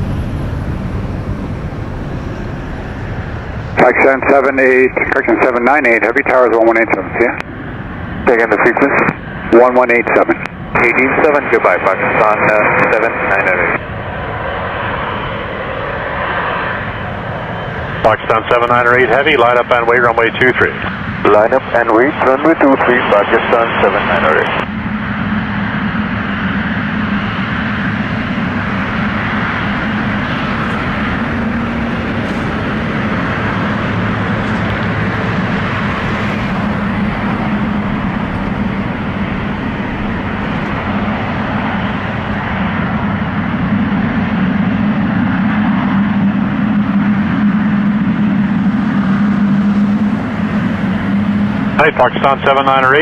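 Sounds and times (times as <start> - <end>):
jet engines droning: 0.0 - 53.0.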